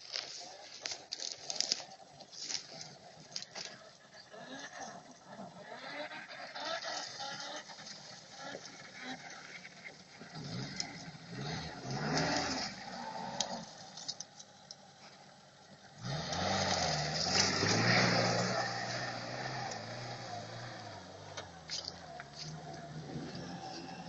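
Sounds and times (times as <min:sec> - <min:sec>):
engine revving: 0:02.4 - 0:14.3, 0:15.8 - 0:24.0.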